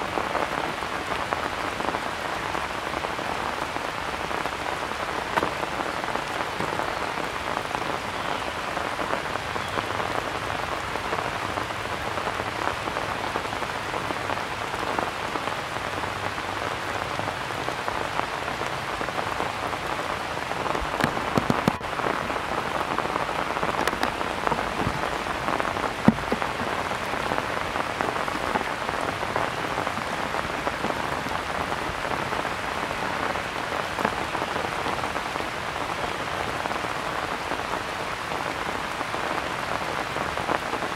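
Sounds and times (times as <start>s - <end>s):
rain on leaves: 0.0s - 40.9s.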